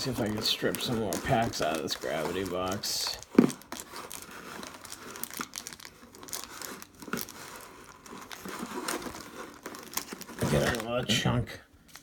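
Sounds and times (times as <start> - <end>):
card packs crinkling and rustling: 0.0 - 12.0.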